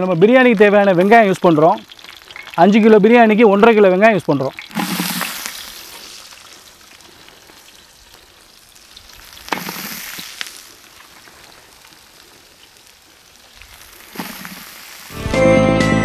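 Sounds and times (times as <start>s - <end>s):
onions sizzling in hot oil: 0.0s - 15.2s.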